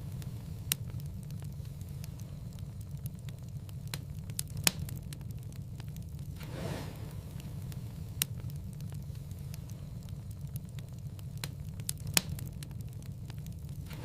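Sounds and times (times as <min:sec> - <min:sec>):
firewood crackling and popping: 0:00.0 - 0:14.0
low steady fire rumble: 0:00.0 - 0:14.0.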